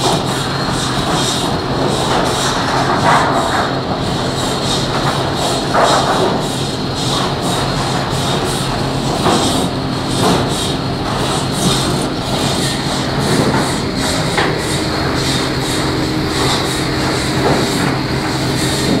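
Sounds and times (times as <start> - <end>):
machinery knocks and clatter: 0.0 - 19.0
sawmill conveyor humming: 0.0 - 19.0.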